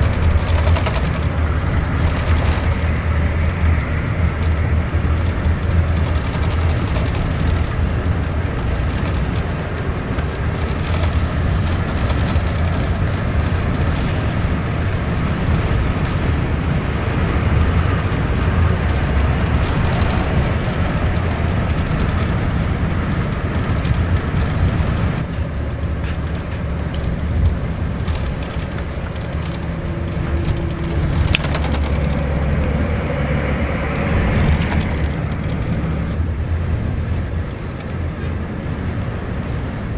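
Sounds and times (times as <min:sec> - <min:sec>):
body rattles and knocks: 0:00.0 - 0:36.2
coach engine and road rumble: 0:00.0 - 0:39.9.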